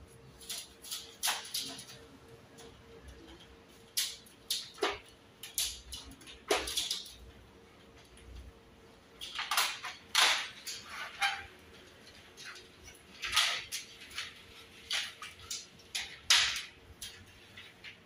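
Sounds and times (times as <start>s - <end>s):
plastic scraping and rattling: 0.3s - 7.3s, 9.1s - 18.0s.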